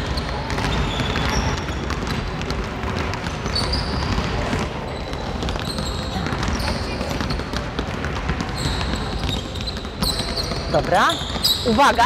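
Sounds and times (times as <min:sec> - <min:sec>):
basketballs bouncing: 0:00.0 - 0:12.0.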